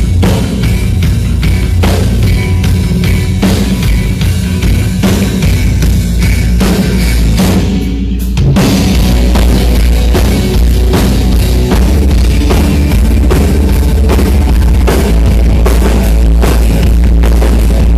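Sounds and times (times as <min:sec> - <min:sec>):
drum kit hits: 0:00.0 - 0:17.9
rock band playing live: 0:00.0 - 0:17.9.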